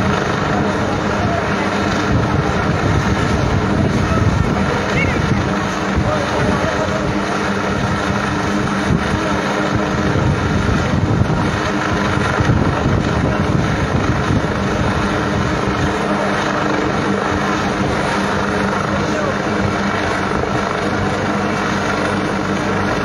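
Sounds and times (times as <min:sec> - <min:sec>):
helicopter rotor drone: 0:00.0 - 0:23.0.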